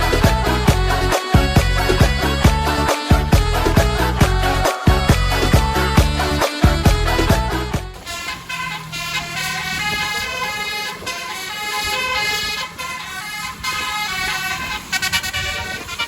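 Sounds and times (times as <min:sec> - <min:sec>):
musical vehicle horn tune: 0:00.0 - 0:16.0.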